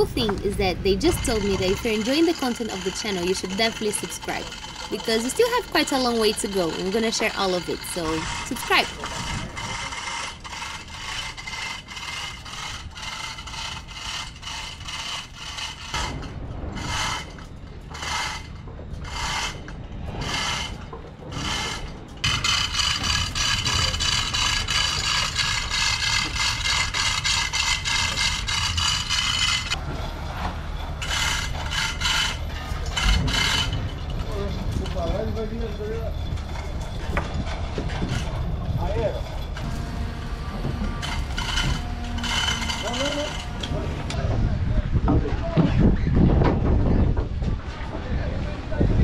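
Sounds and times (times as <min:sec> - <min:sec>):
chain rasping over metal: 0:00.0 - 0:44.2.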